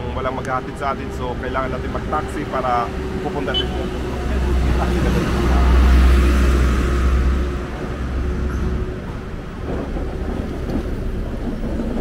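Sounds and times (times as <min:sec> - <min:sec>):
street traffic noise: 0:00.0 - 0:12.0
truck engine rumble passing: 0:00.0 - 0:12.0.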